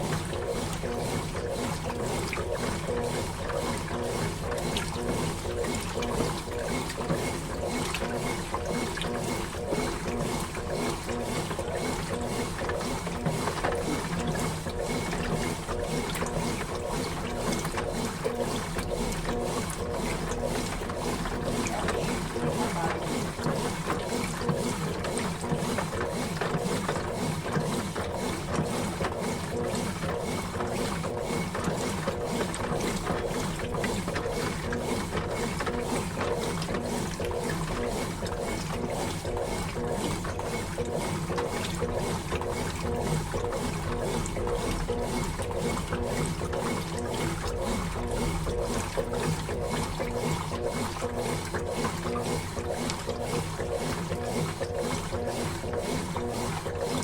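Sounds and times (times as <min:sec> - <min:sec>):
churning water: 0:00.0 - 0:57.0
washing machine agitating: 0:00.0 - 0:57.0.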